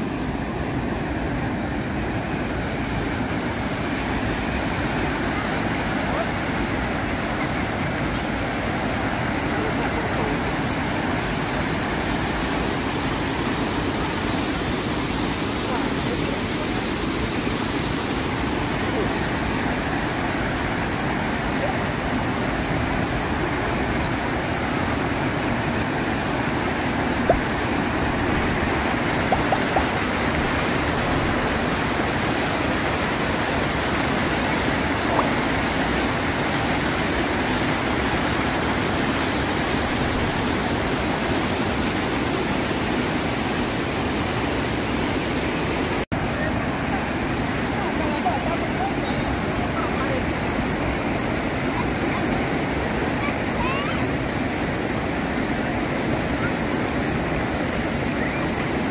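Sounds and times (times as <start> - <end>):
turbulent water rushing: 0.0 - 58.9.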